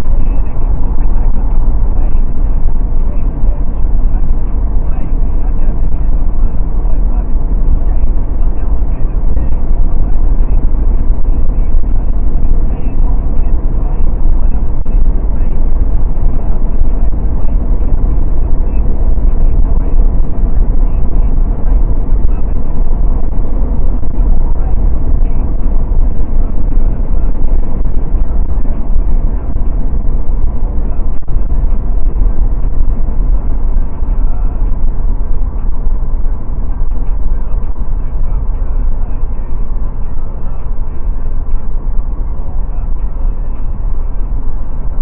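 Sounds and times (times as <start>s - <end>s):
road and wind noise inside car: 0.0s - 45.0s.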